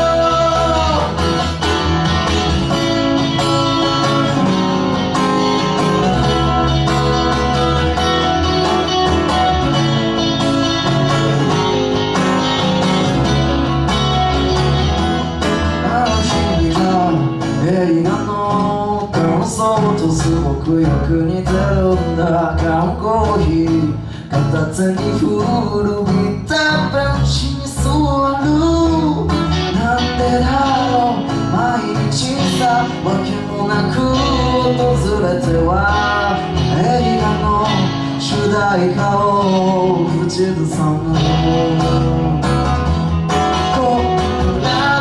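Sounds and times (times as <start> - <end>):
person singing: 0.0 - 13.1, 14.4 - 45.0
acoustic rock band playing: 0.0 - 45.0.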